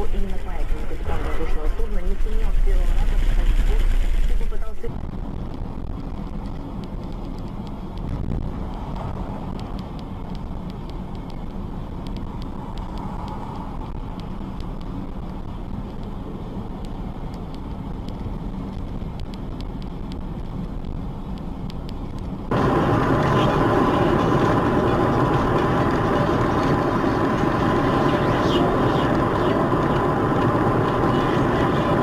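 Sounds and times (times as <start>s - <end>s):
engine and tyres rumbling: 0.0s - 32.0s.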